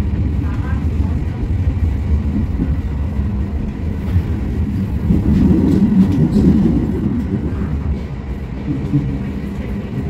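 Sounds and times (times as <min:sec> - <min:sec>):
light-rail car wheels rumbling: 0:00.0 - 0:10.0.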